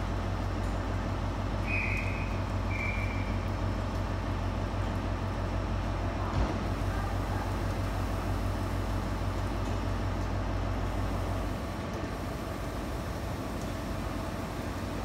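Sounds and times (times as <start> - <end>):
diesel train hum: 0.0 - 15.0.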